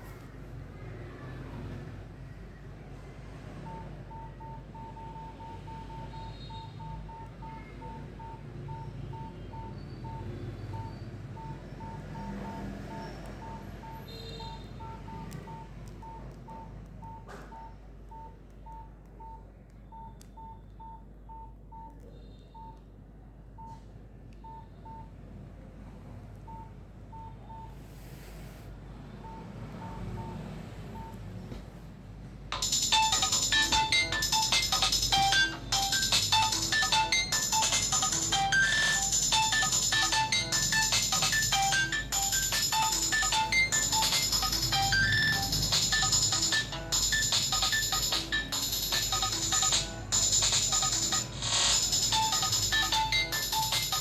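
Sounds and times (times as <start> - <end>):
phone keypad beeps: 3.7 - 22.8, 24.4 - 25.1, 26.5 - 27.7, 29.2 - 30.4, 31.0 - 31.2, 32.6 - 54.0.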